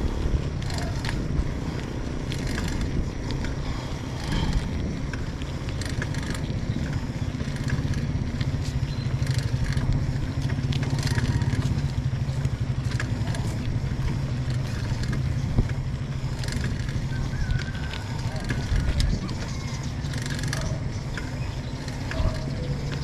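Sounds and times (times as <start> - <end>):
vehicle engine running: 0.0 - 23.0
clicks and rattles: 0.6 - 3.6, 4.2 - 23.0.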